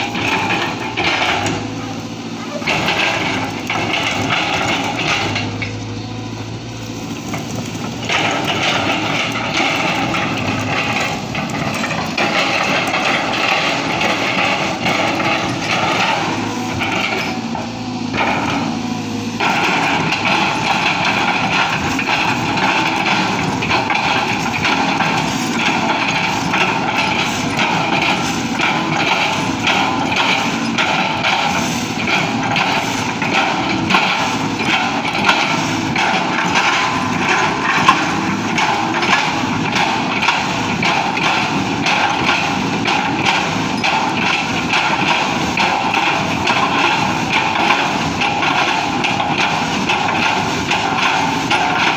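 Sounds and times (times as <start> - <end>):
excavator engine clattering: 0.0 - 51.9.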